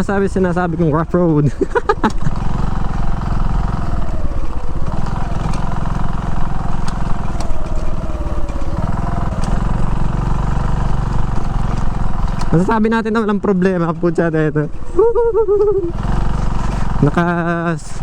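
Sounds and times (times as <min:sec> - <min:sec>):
motorcycle engine running: 0:00.0 - 0:13.4, 0:14.7 - 0:18.0.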